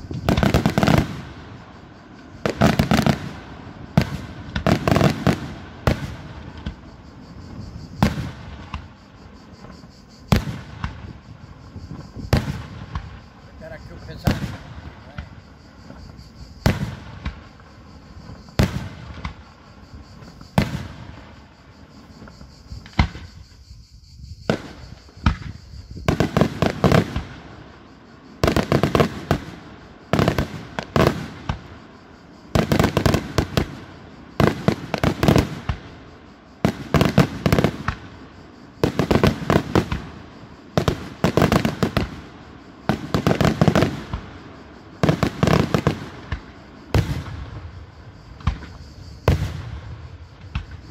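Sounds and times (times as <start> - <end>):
fireworks shells exploding: 0.0 - 23.5, 24.5 - 50.9.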